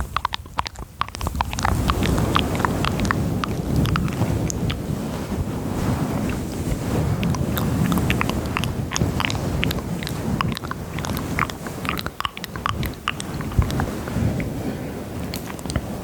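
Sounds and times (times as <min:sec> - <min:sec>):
wet tongue and lip clicks: 0:00.0 - 0:05.5, 0:06.2 - 0:16.0
low rubbing rustle: 0:01.3 - 0:16.0.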